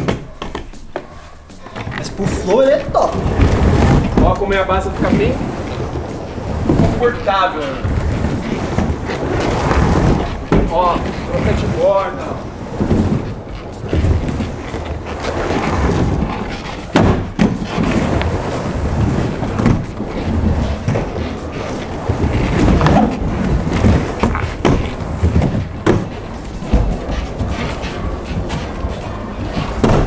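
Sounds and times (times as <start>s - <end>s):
skateboard clacks and thuds: 0.0s - 30.0s
skateboard wheels rolling: 0.0s - 30.0s.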